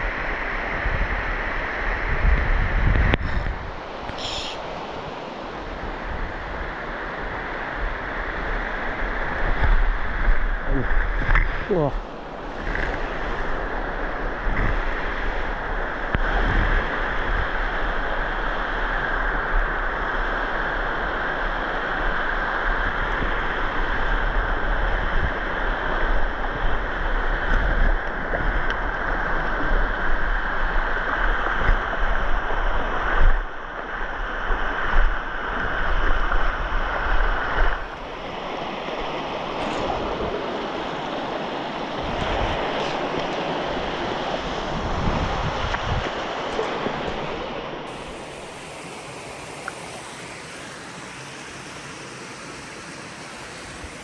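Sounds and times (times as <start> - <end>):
wind rumble on microphone: 0.0 - 48.4
stream rushing over rocks: 0.0 - 54.0.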